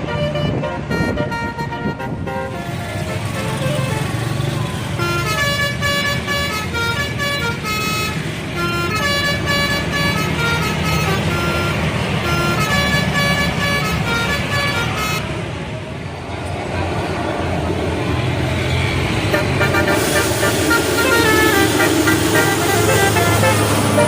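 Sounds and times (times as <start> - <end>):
tuned air horns playing melody: 0.0 - 15.4, 19.2 - 24.0
low vehicle engine noise: 0.0 - 24.0.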